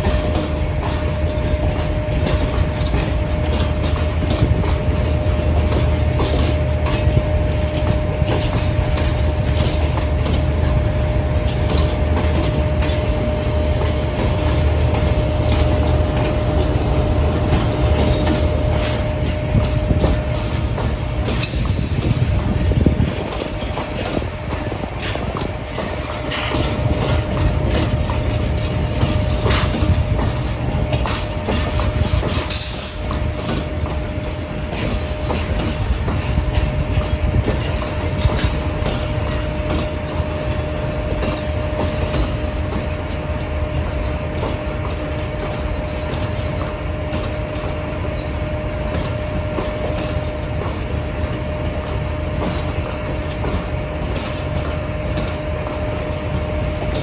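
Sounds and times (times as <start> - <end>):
train rumble: 0.0 - 57.0
wheels clicking over rail joints: 0.0 - 57.0.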